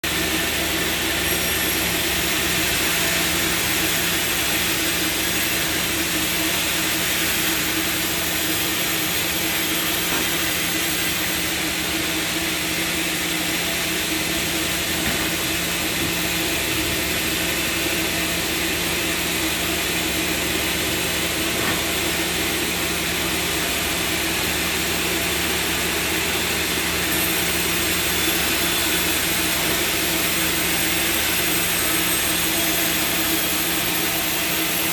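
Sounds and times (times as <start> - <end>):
sawmill machinery droning: 0.0 - 34.9.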